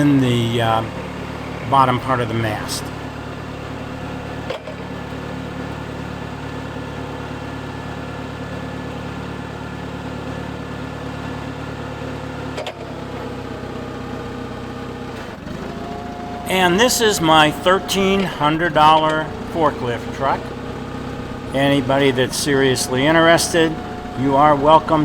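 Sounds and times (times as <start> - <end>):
forklift engine idling: 0.0 - 25.0.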